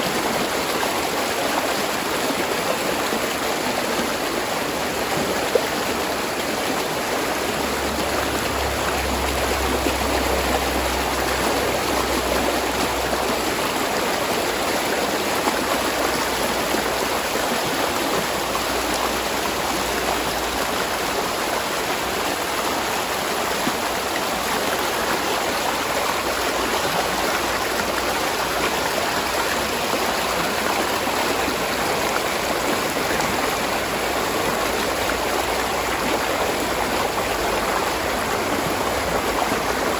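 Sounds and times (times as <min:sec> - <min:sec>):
stream of spring water running: 0:00.0 - 0:39.9.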